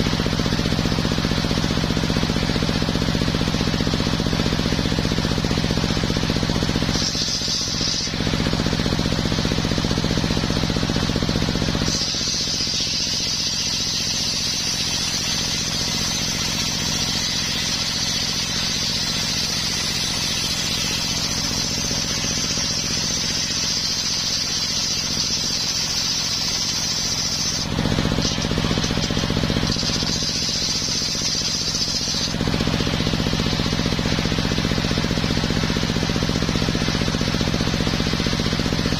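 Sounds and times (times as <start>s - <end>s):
engine running: 0.0s - 38.9s
saw blade whining through log: 0.0s - 38.9s.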